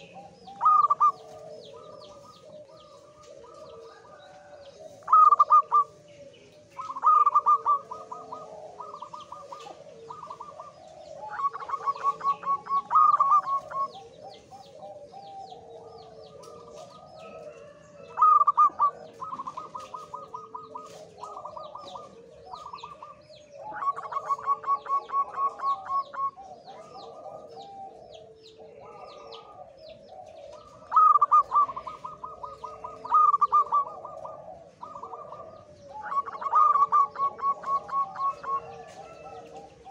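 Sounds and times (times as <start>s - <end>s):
dove cooing: 0.0s - 39.9s
soft low bird calls: 0.0s - 39.9s.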